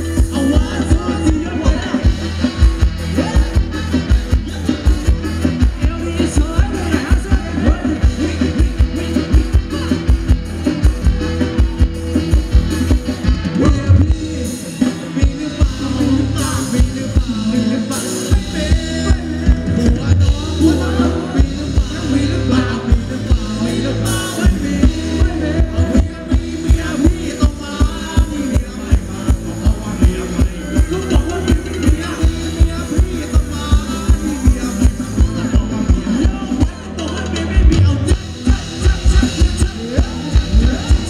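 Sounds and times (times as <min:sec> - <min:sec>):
band music through sound system: 0:00.0 - 0:41.0
deep bass: 0:00.0 - 0:41.0
heavy drum beat: 0:00.0 - 0:41.0.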